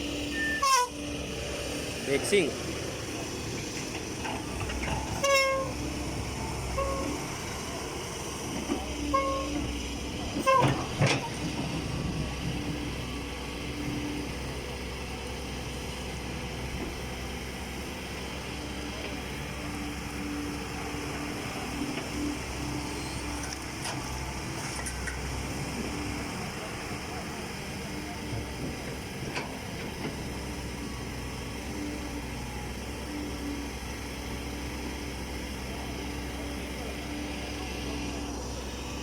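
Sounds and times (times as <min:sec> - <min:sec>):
dump truck diesel engine running: 0:00.0 - 0:39.0.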